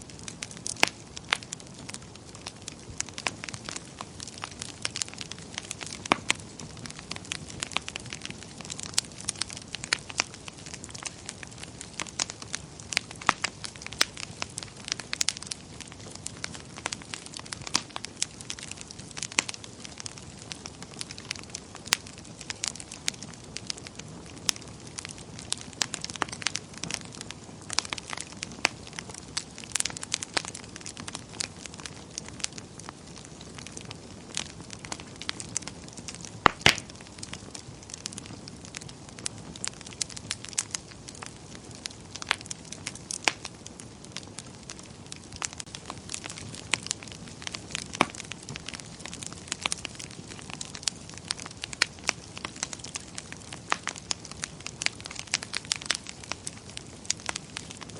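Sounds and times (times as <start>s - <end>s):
wood fire crackling and hissing: 0.0s - 57.9s.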